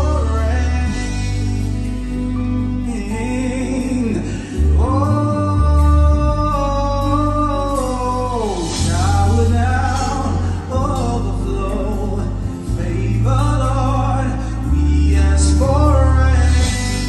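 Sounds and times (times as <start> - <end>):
low bass notes: 0.0 - 17.0
man singing gospel: 0.0 - 17.0.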